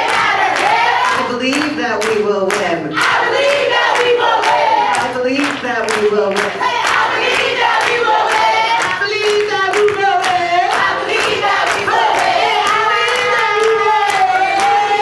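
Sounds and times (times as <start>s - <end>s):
group singing a chant: 0.0s - 15.0s
hands clapping on a beat: 0.0s - 15.0s.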